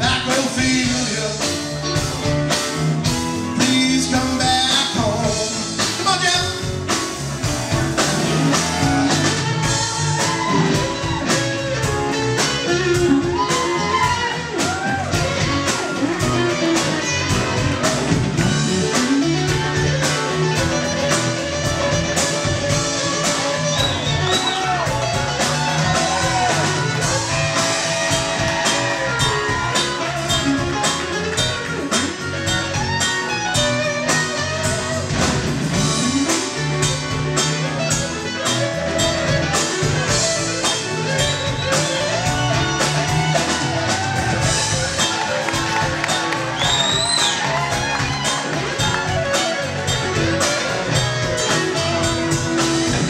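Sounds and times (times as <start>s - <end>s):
pitch-bending lead guitar: 0.0s - 53.0s
rock band playing: 0.0s - 53.0s.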